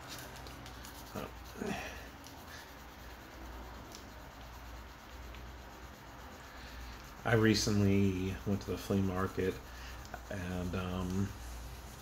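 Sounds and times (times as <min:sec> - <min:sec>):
abrasive sheet rubbing plastic: 0:00.0 - 0:12.0.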